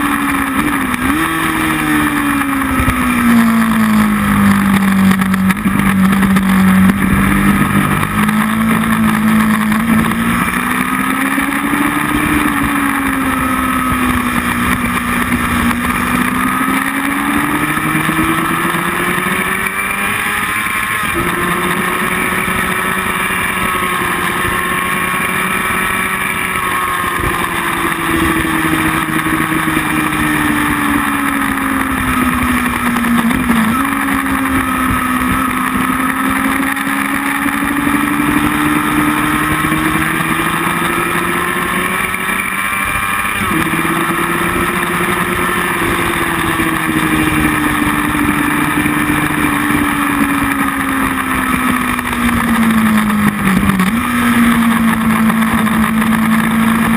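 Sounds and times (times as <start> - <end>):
motorcycle engine: 0.0 - 56.9.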